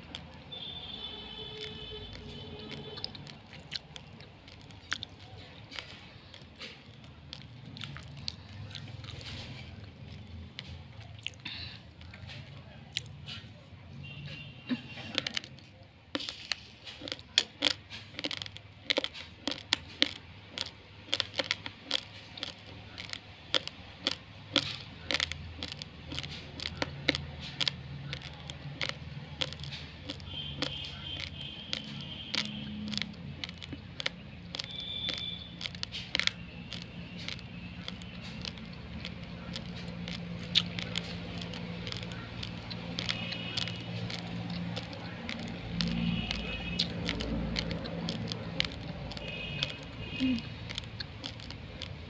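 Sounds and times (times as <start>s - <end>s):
raw rice crunching: 0.0s - 52.0s.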